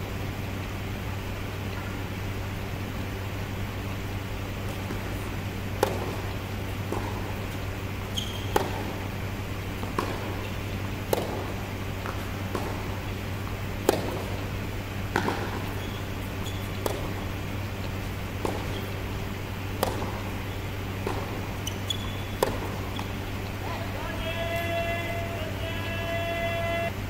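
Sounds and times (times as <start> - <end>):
steady low hum: 0.0 - 27.0
tennis ball bouncing: 1.7 - 2.1, 4.4 - 26.5
tennis racket strokes: 4.6 - 26.5.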